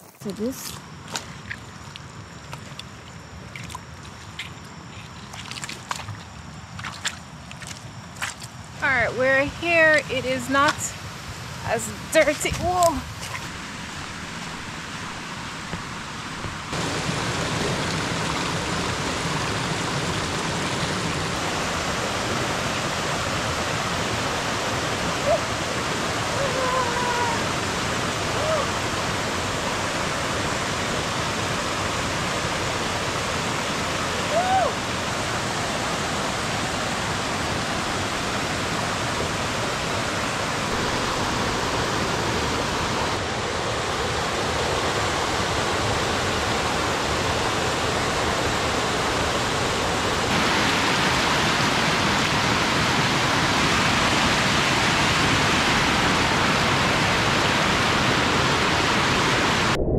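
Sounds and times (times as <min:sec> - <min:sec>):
waterfall rushing: 0:11.4 - 0:59.8.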